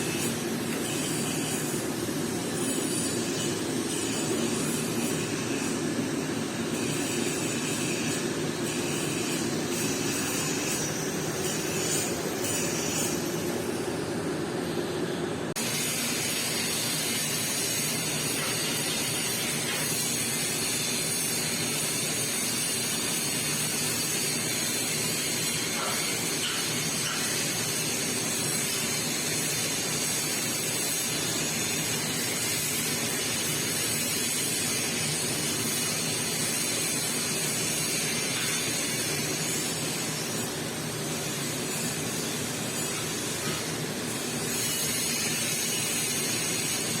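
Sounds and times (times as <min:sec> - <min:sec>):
welding arc hissing: 0:00.0 - 0:14.8, 0:15.5 - 0:47.0.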